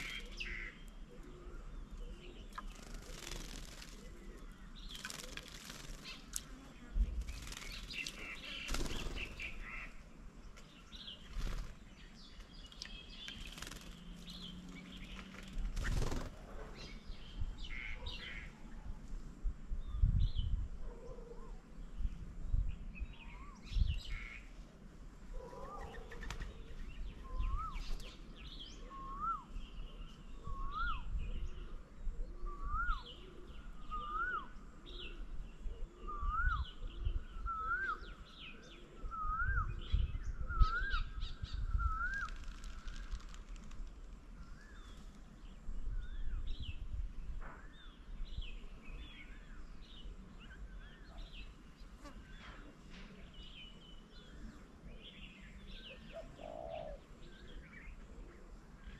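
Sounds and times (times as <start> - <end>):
birds chirping: 0.0 - 18.9, 19.8 - 58.9.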